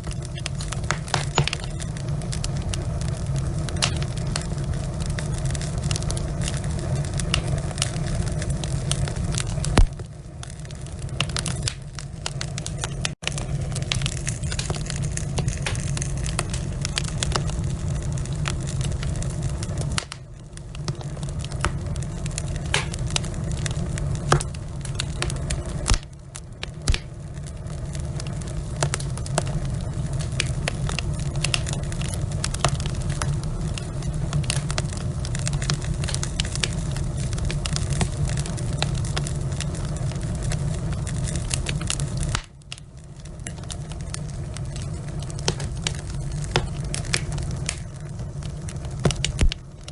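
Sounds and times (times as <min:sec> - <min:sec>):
log fire crackling and popping: 0:00.0 - 0:49.9
low rumble of flames: 0:00.0 - 0:49.9.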